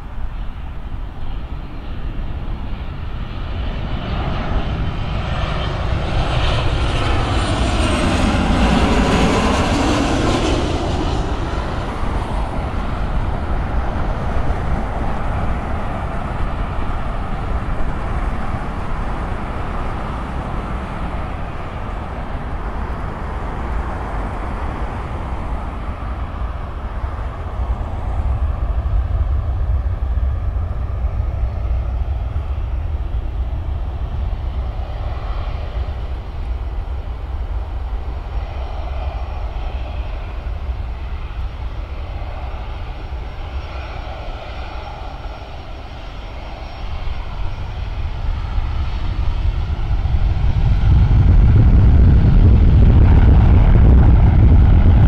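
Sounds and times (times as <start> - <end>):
airliner passing low overhead: 0.0 - 55.0
distant jet engine rumble: 0.0 - 55.0.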